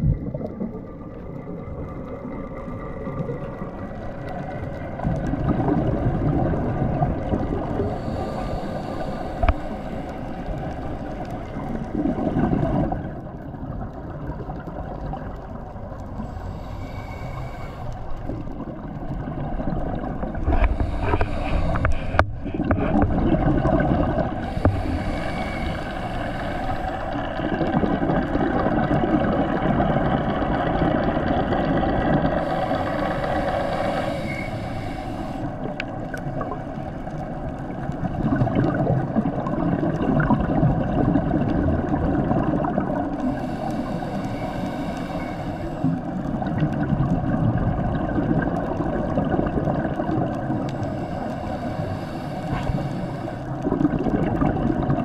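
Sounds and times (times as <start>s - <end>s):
underwater bubbling water: 0.0s - 55.0s.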